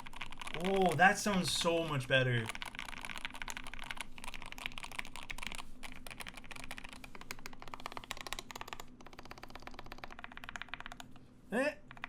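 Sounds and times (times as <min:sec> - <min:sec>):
fast typing on mechanical keyboard: 0:00.0 - 0:11.2.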